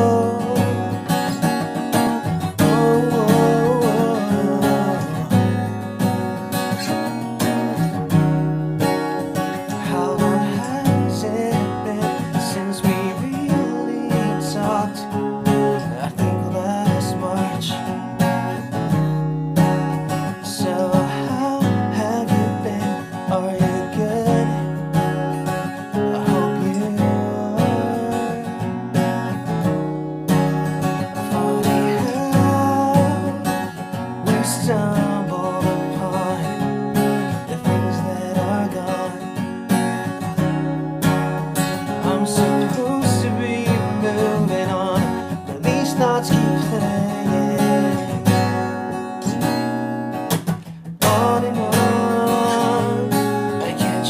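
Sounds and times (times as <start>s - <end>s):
man singing: 0.0s - 6.0s, 8.8s - 18.4s, 20.1s - 29.7s, 30.8s - 39.8s, 41.6s - 49.6s, 51.0s - 54.0s
acoustic guitar strumming: 0.0s - 54.0s.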